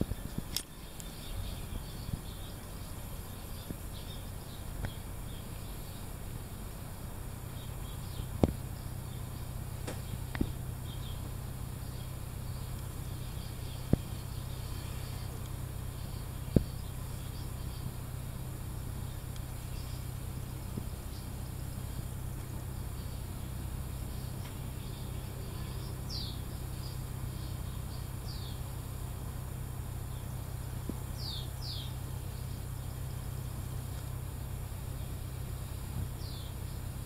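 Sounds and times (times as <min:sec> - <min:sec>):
swallows twittering: 0:00.0 - 0:06.6, 0:07.5 - 0:29.1, 0:31.1 - 0:33.8, 0:35.0 - 0:36.8
steady low rumble: 0:00.0 - 0:37.0.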